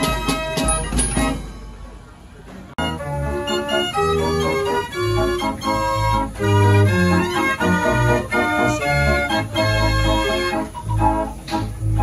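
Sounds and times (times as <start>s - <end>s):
street organ playing a tune: 0.0s - 12.0s.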